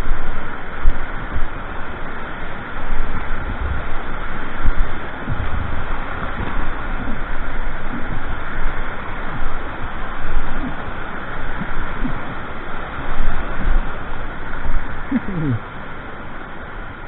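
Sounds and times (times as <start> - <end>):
water splashing on microphone: 0.0 - 17.0
whitewater rushing: 0.0 - 17.0.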